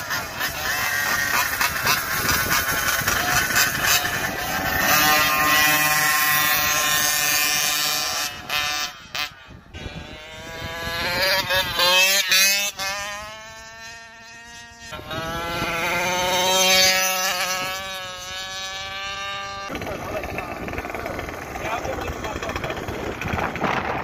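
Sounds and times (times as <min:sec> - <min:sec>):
scooter engine buzzing at high revs: 0:00.0 - 0:24.0.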